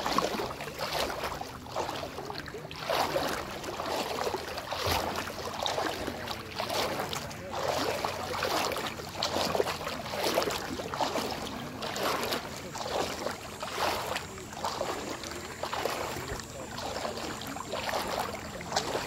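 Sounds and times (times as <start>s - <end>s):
small waves lapping: 0.0s - 19.0s
soft water splashes: 0.0s - 19.0s.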